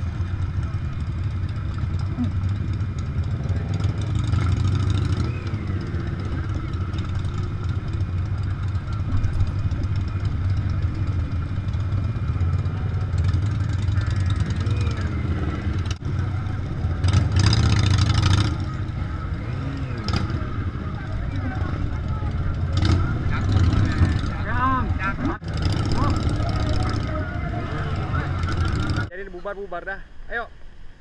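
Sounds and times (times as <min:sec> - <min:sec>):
motorcycle engines droning: 0:00.0 - 0:30.8.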